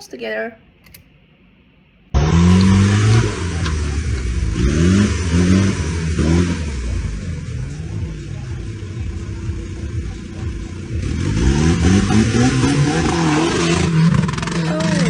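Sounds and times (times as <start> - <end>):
off-road vehicle engine revving: 2.1 - 15.0.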